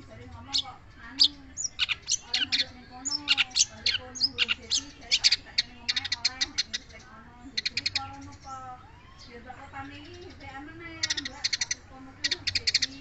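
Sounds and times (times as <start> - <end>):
shrike singing: 0.0 - 13.0.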